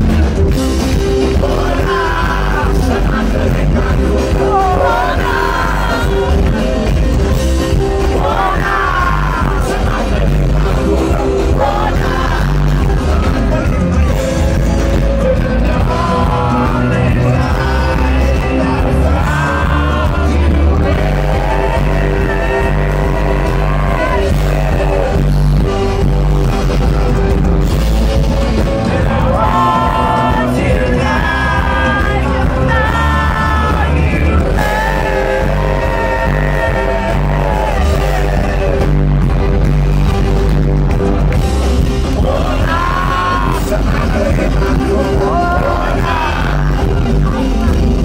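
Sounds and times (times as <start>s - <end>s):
lead singer singing: 0.0s - 48.0s
live band playing: 0.0s - 48.0s.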